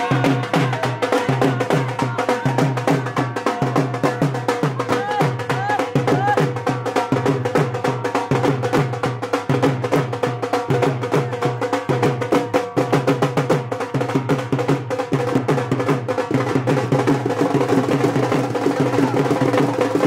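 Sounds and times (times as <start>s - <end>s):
fast steady drumming: 0.0s - 20.0s.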